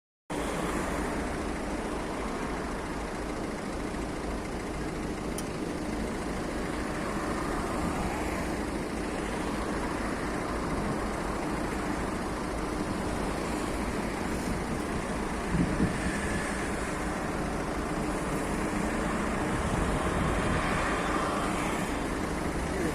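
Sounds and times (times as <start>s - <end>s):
city road traffic rumble: 0.3s - 22.9s.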